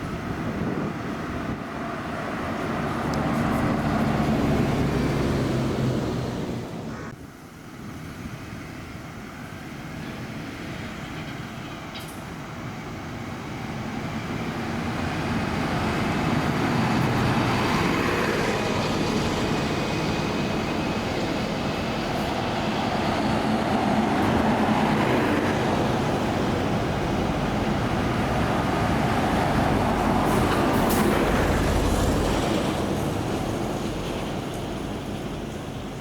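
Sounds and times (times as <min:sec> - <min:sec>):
buses driving past: 0:00.0 - 0:36.0.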